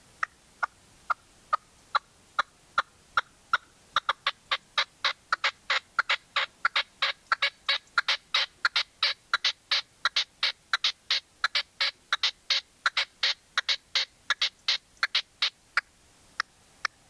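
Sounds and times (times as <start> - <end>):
partridge calling harsh notes: 0.2 - 15.9.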